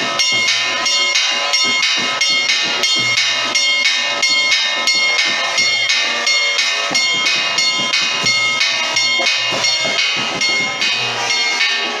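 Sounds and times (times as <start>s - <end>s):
soft low thumps: 0.0s - 11.4s
metal percussion strikes ringing: 0.0s - 12.0s.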